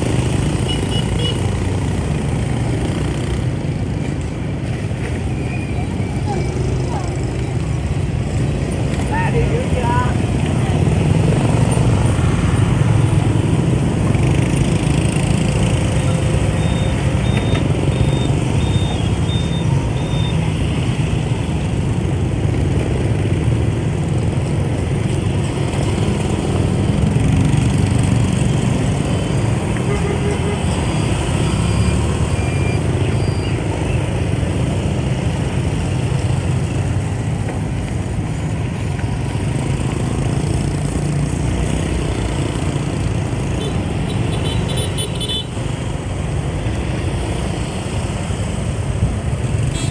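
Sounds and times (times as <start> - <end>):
motorbike engines rumbling: 0.0 - 49.9.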